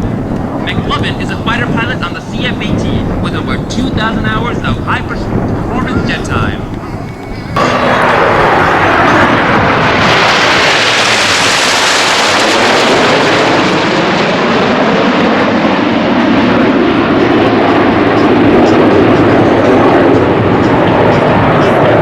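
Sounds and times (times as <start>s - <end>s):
jets flying past roaring: 0.0s - 22.0s.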